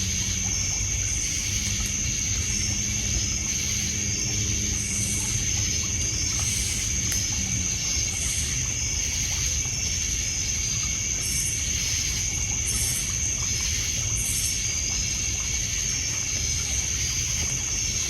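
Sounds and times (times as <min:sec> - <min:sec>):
crickets trilling: 0:00.0 - 0:18.0
insect chirps: 0:00.0 - 0:18.0
water lapping at shore: 0:00.0 - 0:18.0.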